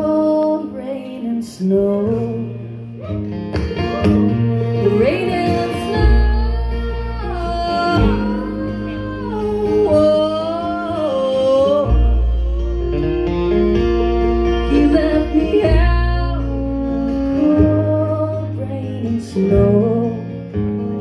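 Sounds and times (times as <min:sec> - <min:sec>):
acoustic guitar: 0:00.0 - 0:21.0
sliding lead melody line: 0:00.0 - 0:21.0
upright bass: 0:00.0 - 0:21.0.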